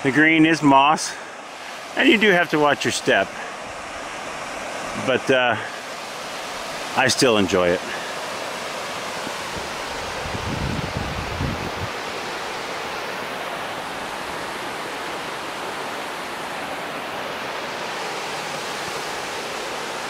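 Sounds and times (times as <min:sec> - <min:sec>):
rushing river and waterfall: 0:00.0 - 0:20.0.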